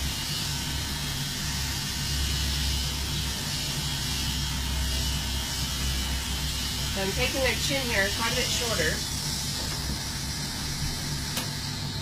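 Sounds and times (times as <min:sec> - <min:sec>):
electric clippers humming: 0:00.0 - 0:12.0.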